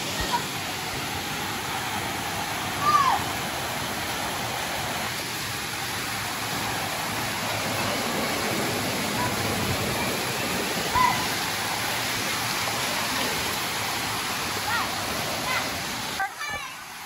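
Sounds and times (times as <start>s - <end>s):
water rushing over spillway: 0.0s - 17.0s.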